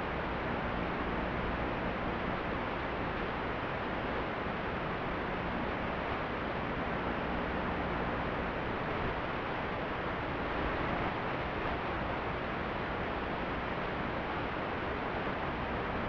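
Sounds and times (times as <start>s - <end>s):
static hiss: 0.0s - 16.0s.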